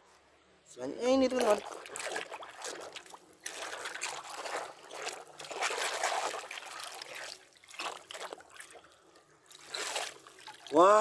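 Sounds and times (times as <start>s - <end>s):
water sloshing in a plastic basin: 1.2s - 11.0s.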